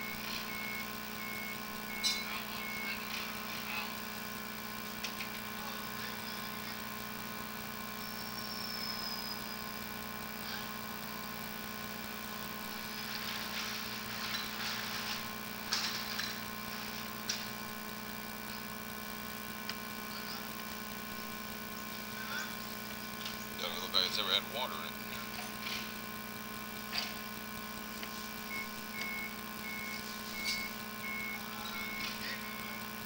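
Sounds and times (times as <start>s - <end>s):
low mechanical drone: 0.0s - 33.0s.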